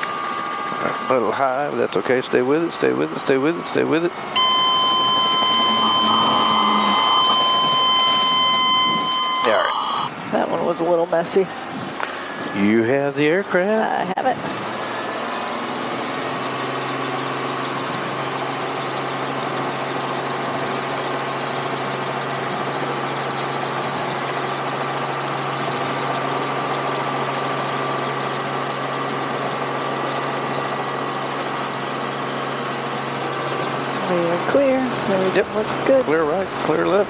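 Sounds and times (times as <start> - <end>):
helicopter engine and rotors running: 0.0 - 37.0.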